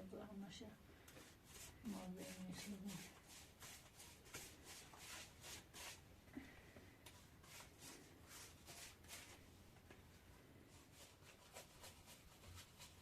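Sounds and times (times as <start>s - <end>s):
faint rustling strokes: 1.0s - 13.0s.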